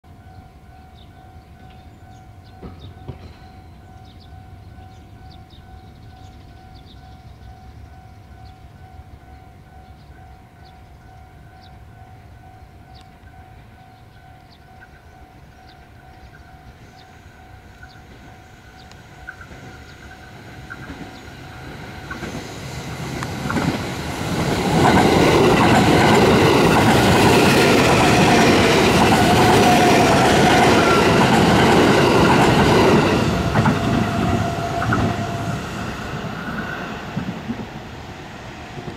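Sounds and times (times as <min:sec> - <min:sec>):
electric train passing: 0:00.1 - 0:38.9.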